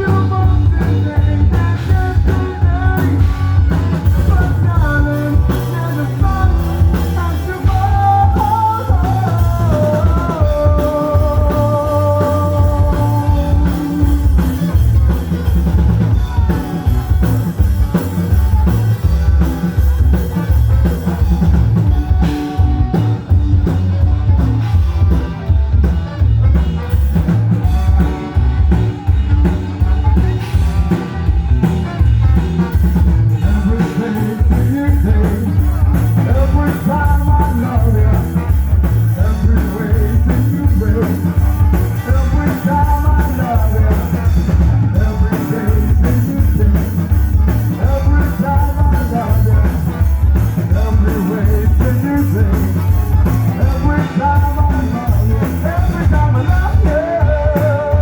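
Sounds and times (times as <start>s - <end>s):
rock music with singing: 0.0s - 58.0s.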